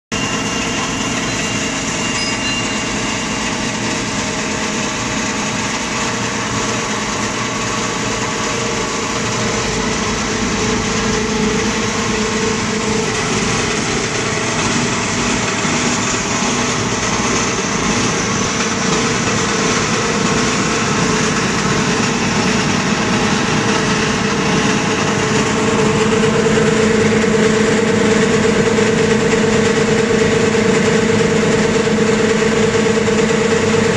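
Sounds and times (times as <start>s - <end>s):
wire granulator running: 0.1s - 33.9s.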